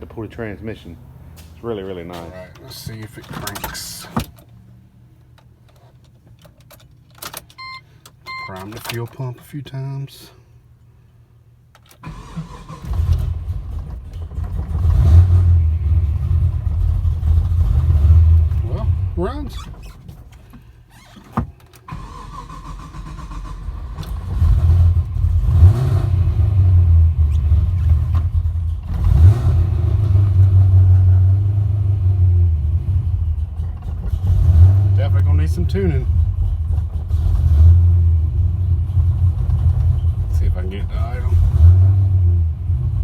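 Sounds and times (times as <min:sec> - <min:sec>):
car engine starting and running: 0:00.0 - 0:09.8, 0:11.5 - 0:43.0.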